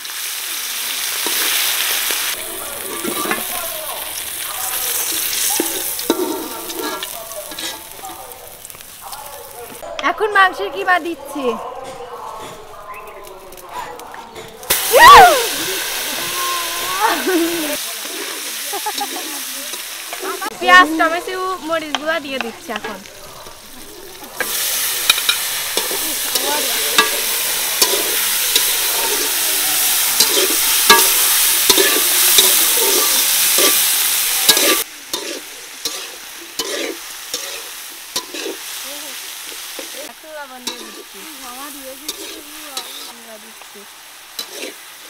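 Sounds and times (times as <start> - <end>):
vegetables sizzling in hot oil: 0.0 - 11.6, 12.5 - 13.7, 14.4 - 45.0
metal spatula scraping wok: 1.1 - 10.4, 17.0 - 43.4, 44.3 - 45.0.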